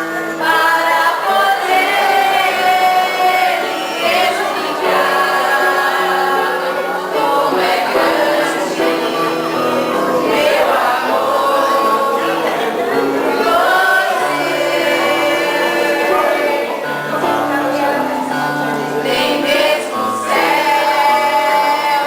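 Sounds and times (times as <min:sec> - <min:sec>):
choir singing long held notes: 0:00.0 - 0:22.0.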